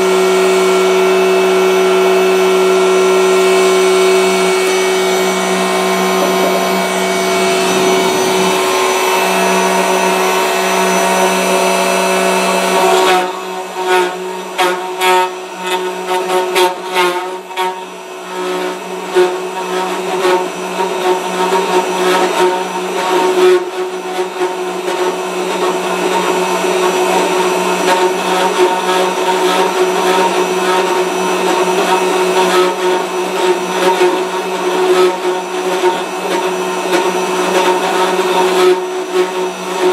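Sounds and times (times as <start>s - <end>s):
router cutting wood: 0.0s - 39.9s
router motor whining: 0.0s - 39.9s.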